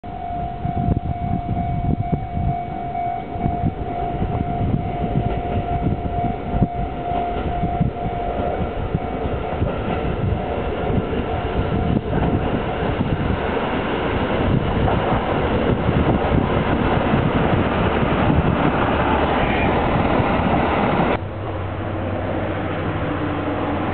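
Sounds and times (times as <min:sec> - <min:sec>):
steady high tone: 0:00.0 - 0:23.9
diesel railcar passing: 0:00.1 - 0:23.9.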